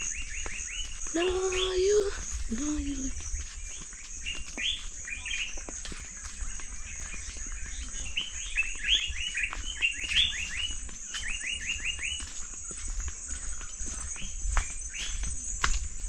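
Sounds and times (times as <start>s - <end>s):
bird chirping: 0.0s - 15.6s.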